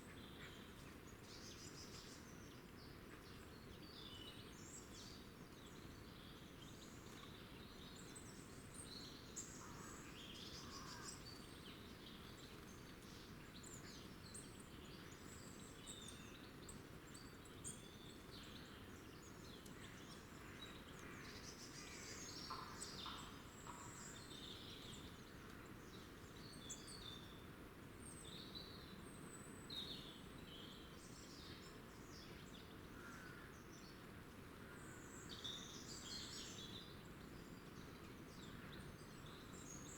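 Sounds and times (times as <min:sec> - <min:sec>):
faint low background noise: 0:00.0 - 0:39.9.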